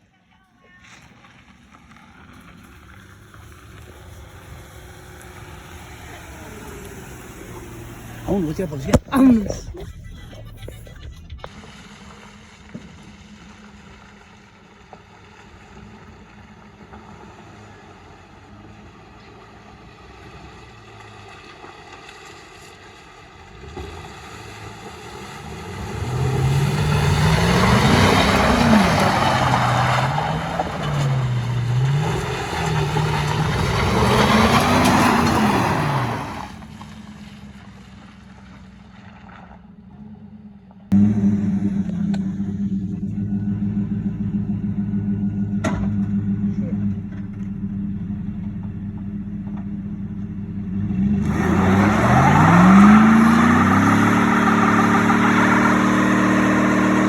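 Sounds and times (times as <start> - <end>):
vehicle engine revving: 1.0 - 57.0.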